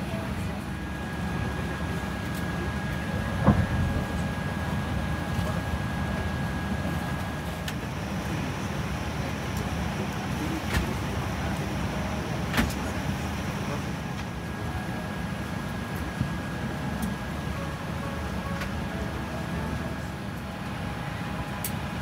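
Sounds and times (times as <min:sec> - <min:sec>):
airliner cabin hum: 0:00.0 - 0:22.0.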